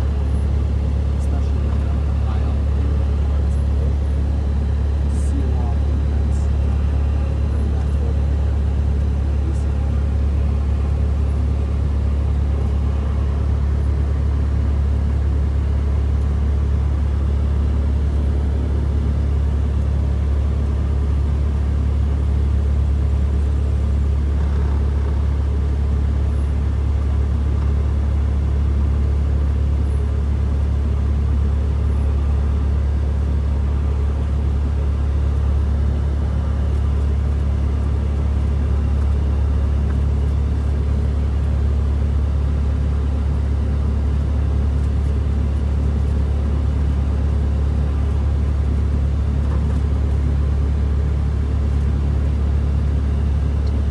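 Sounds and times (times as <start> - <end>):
propeller plane engine droning: 0.0 - 53.9.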